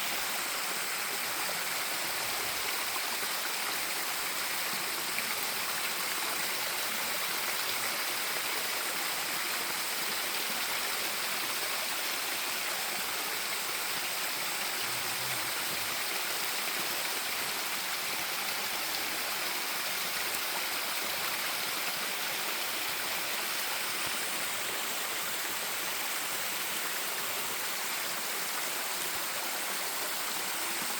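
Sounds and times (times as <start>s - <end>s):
running water stream: 0.0s - 30.9s.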